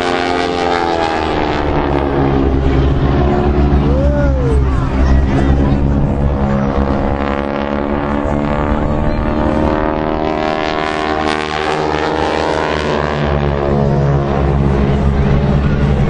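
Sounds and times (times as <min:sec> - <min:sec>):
plane flying past: 0:00.0 - 0:16.0.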